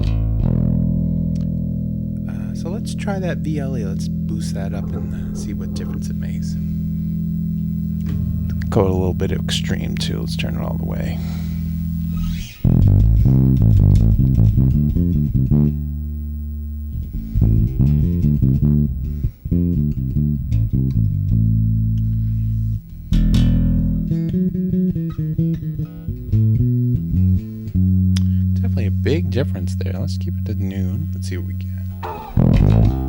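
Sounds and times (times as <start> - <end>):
electric bass riff: 0.0 - 33.0.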